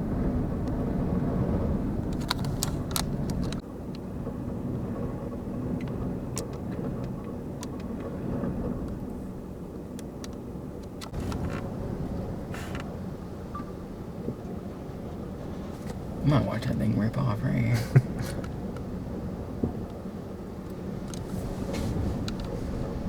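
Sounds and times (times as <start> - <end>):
wind rumbling around vehicle: 0.0 - 23.0.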